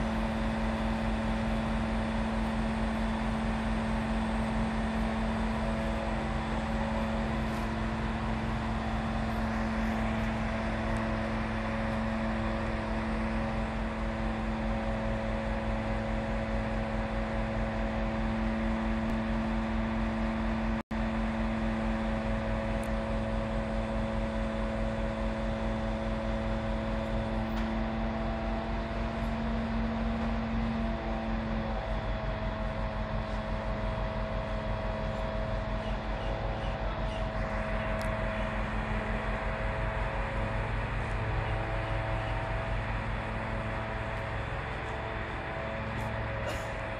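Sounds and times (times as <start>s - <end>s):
diesel engine humming drone: 0.0s - 46.9s.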